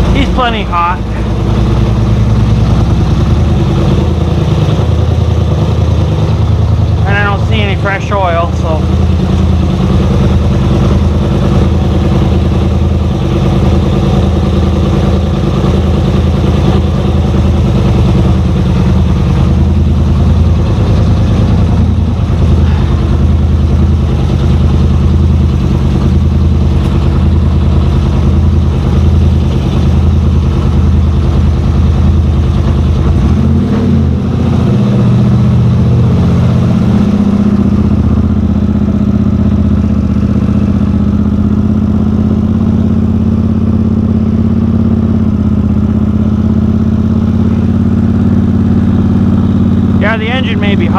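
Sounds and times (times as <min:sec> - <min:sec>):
straight-piped engine idling: 0:00.0 - 0:50.9.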